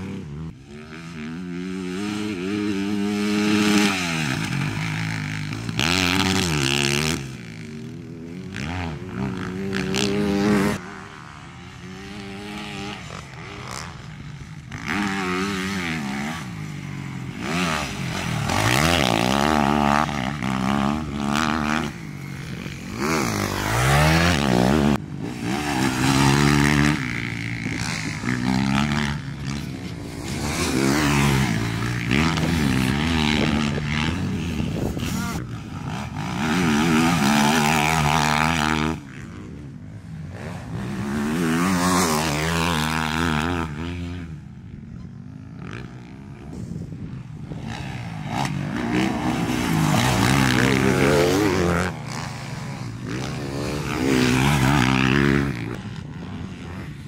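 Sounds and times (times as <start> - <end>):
dirt bike engine revving: 0.0 - 44.5, 45.4 - 57.0.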